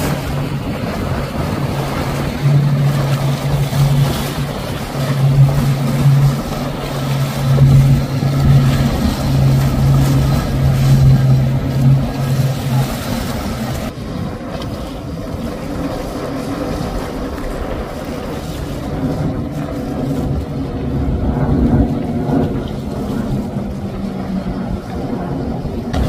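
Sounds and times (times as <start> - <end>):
hulls rushing through water: 0.0 - 26.0
motorboat engines droning: 0.0 - 26.0.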